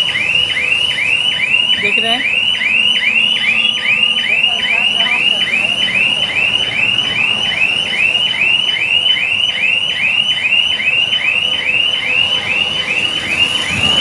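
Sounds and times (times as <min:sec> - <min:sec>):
high chirping warning alarm: 0:00.0 - 0:14.0.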